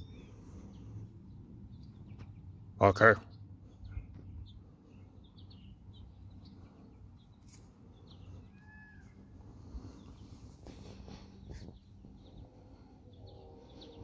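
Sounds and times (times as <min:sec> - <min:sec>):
distant small birds chirping: 0:00.0 - 0:14.0
steady low hum: 0:00.0 - 0:14.0.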